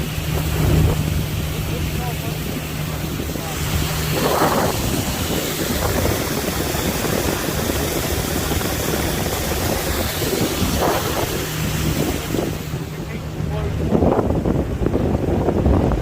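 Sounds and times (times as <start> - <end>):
boat motor humming: 0.0 - 16.0
wind noise on microphone: 0.0 - 16.0.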